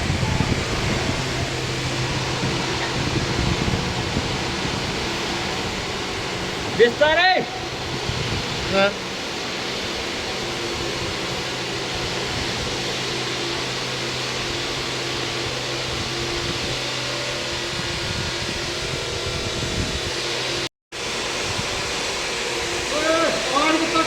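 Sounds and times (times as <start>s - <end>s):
diesel engine humming: 0.0s - 24.0s.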